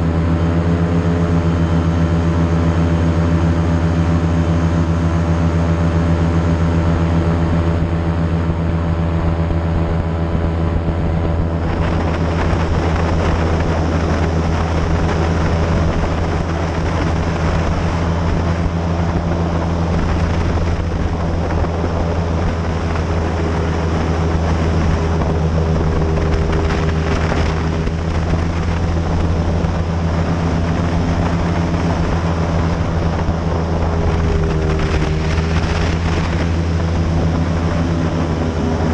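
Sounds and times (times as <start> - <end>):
airboat engine drone: 0.0 - 38.9.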